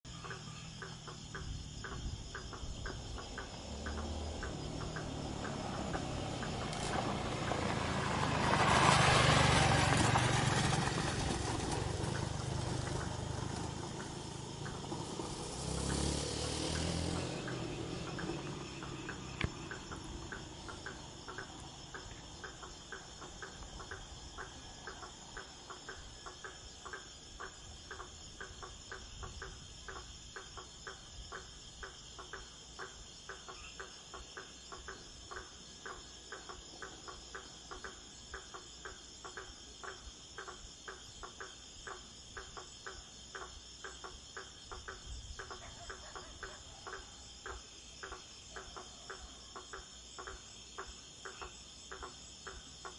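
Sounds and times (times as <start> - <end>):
insects trilling: 0.0 - 52.9
regular ticking: 0.1 - 7.6, 11.9 - 52.9.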